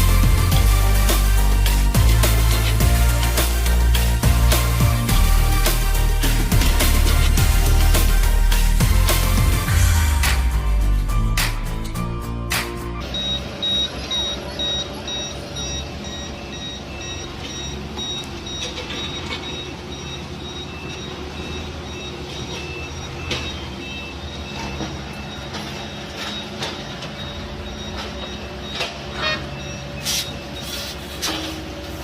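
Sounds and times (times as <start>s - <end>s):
reversing alarm beeping: 0.0s - 12.2s, 13.0s - 32.0s
heavy machinery engine running: 0.0s - 32.0s.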